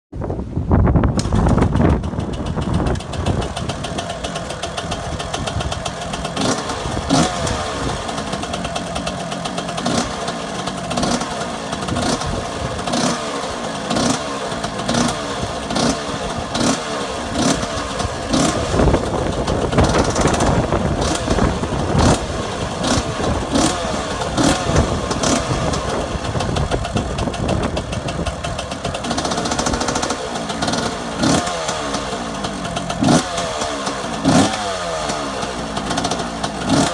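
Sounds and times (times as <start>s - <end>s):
two-stroke engine revving unevenly: 1.1s - 36.9s.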